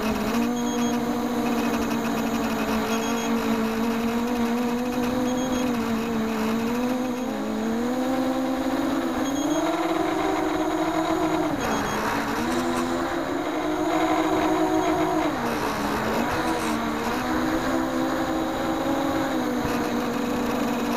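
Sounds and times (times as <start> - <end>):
quadcopter motors whining: 0.0 - 20.9.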